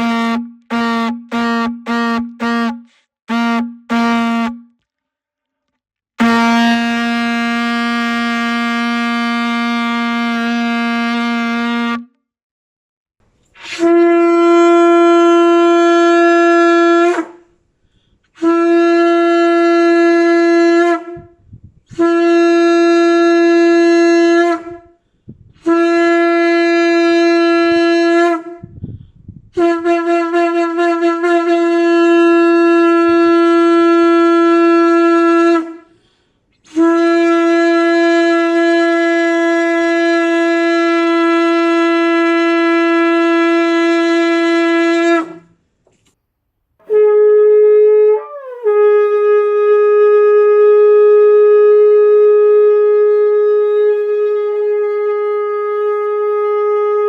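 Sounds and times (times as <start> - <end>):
shofar blasts: 0.0 - 4.7, 6.2 - 12.1, 13.6 - 17.5, 18.4 - 25.0, 25.6 - 35.9, 36.6 - 45.5, 46.8 - 57.0.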